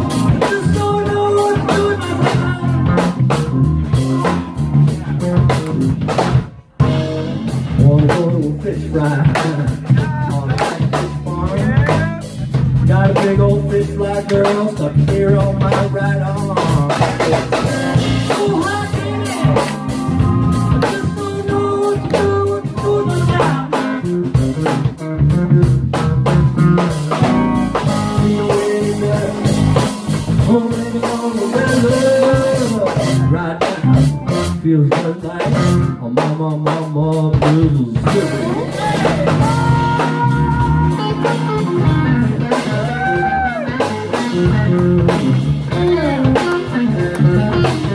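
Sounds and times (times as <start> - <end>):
electric guitar bending notes: 0.0 - 34.8, 37.9 - 47.9
drum kit: 0.0 - 47.9.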